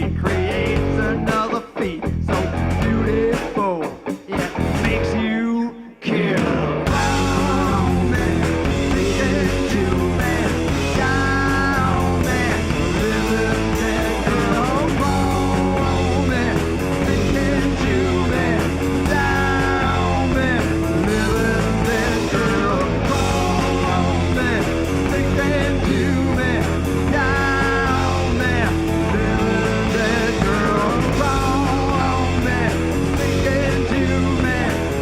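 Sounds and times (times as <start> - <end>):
rock band playing live: 0.0 - 35.0
electric guitar bending pitch: 6.8 - 35.0.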